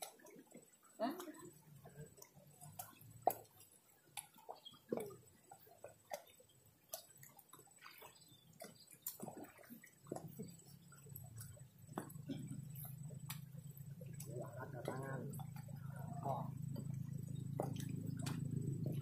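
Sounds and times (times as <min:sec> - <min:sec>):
faint irregular clicks: 0:00.0 - 0:19.0
water dripping: 0:00.0 - 0:19.0.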